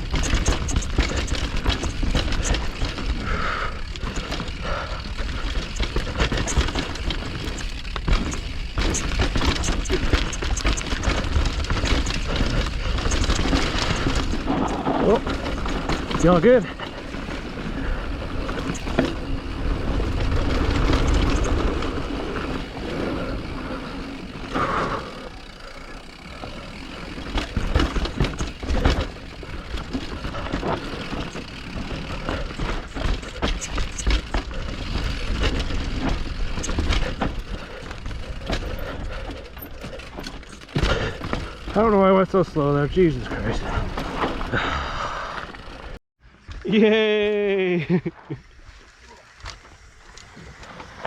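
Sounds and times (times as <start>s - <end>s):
bike knocking and rattling: 0.0s - 46.7s
wind and tyre noise: 0.0s - 46.7s, 48.1s - 51.0s.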